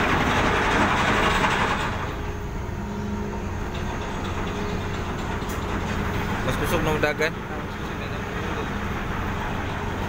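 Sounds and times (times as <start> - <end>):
ship engines droning: 0.0 - 10.0.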